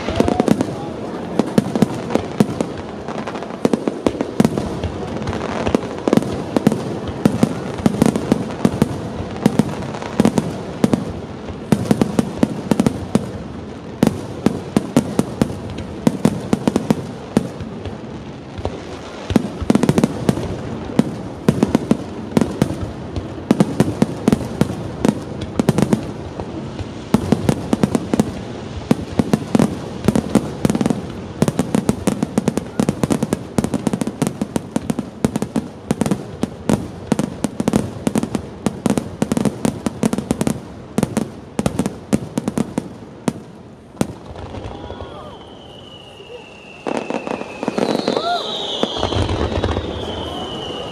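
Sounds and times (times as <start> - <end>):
fireworks bursting rapidly: 0.0 - 50.9.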